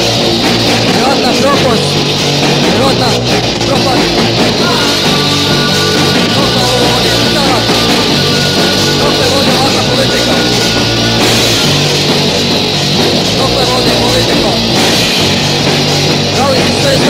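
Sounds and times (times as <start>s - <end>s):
driving bass: 0.0s - 17.0s
punk band playing: 0.0s - 17.0s.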